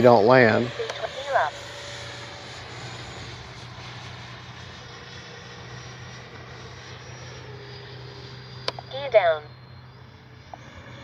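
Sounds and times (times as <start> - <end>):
ducted-fan jet whine: 0.0 - 11.0.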